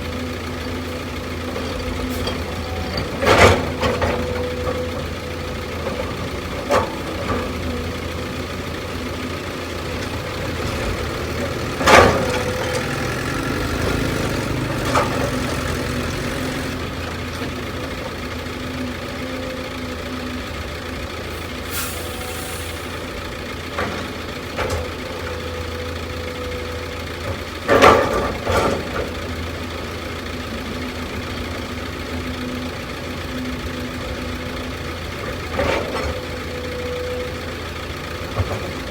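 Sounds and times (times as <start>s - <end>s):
heavy machinery engine idling: 0.0s - 38.9s.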